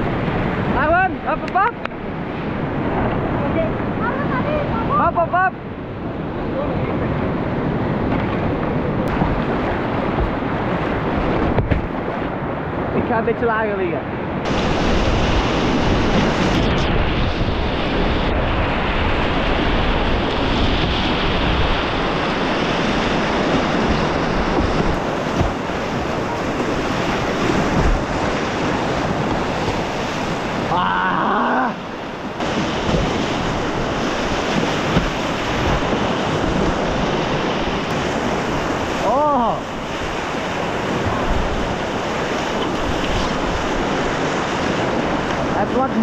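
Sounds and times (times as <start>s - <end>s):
whitewater rushing: 0.0s - 46.0s.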